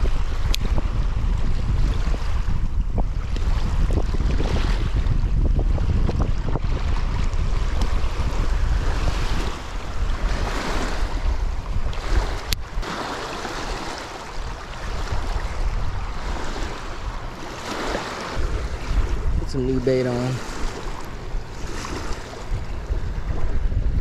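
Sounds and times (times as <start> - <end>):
lake waves washing on shore: 0.0 - 24.0
wind buffeting microphone: 0.0 - 24.0.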